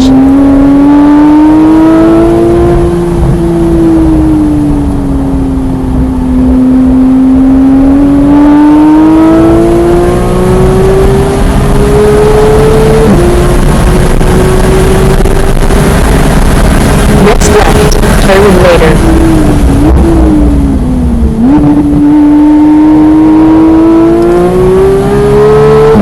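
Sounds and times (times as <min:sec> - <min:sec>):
sports car engine revving: 0:00.0 - 0:26.0.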